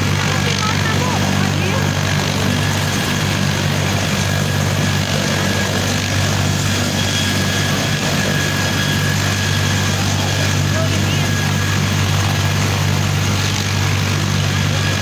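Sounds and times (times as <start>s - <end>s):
helicopter rotor drone: 0.0s - 15.0s
turbine engine whine: 0.0s - 15.0s.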